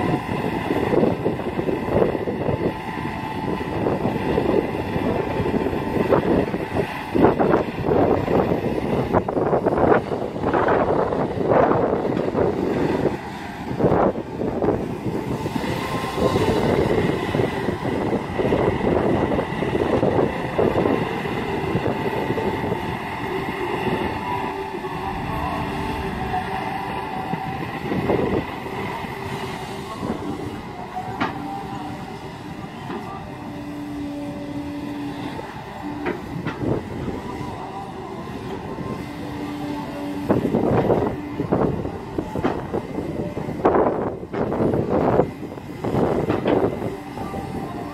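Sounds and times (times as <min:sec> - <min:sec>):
excavator diesel engine under load: 0:00.0 - 0:47.9.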